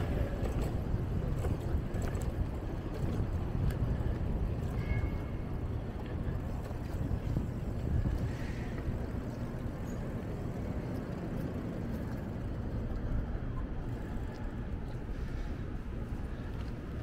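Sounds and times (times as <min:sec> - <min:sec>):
street traffic: 0:00.0 - 0:17.0
wind and road noise: 0:00.0 - 0:17.0.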